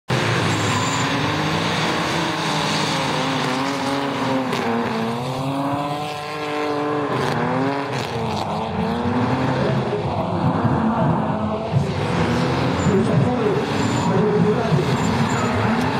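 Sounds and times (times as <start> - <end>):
car engine revving hard: 0.1 - 15.9.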